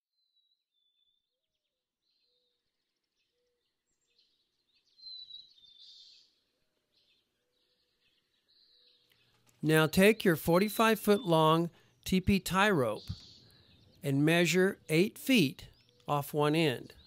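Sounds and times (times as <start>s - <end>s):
faint birds chirping and whistling: 0.0s - 17.0s.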